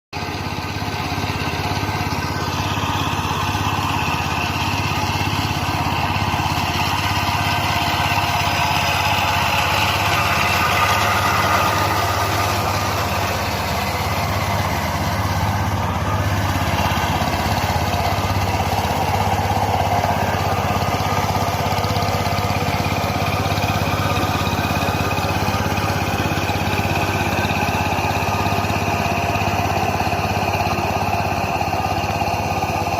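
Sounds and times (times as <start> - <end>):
engine humming: 0.2 - 32.9.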